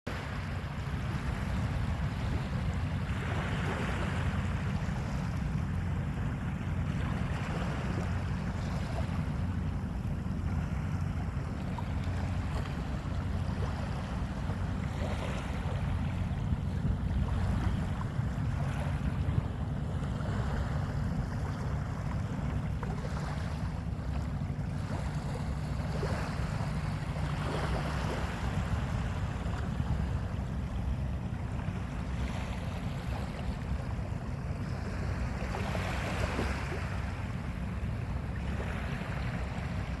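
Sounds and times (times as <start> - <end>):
sea waves breaking on shore: 0.1 - 40.0
wind buffeting microphone: 0.1 - 40.0.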